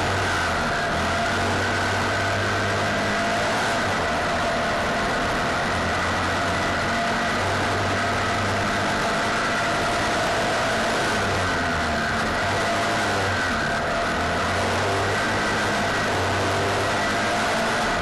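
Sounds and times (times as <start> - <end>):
race car engine running hard: 0.0 - 18.0
wind and road noise: 0.0 - 18.0.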